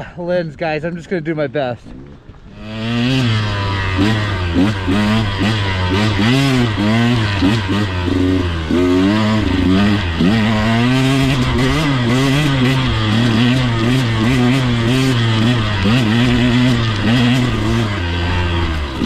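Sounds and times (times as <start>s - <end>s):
dirt bike engine revving: 2.5s - 19.0s.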